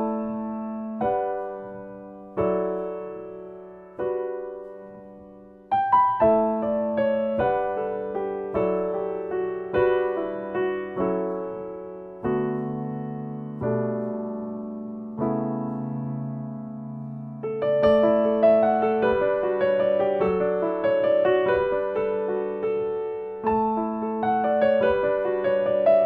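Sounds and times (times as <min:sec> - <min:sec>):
grand piano played slowly: 0:00.0 - 0:26.0.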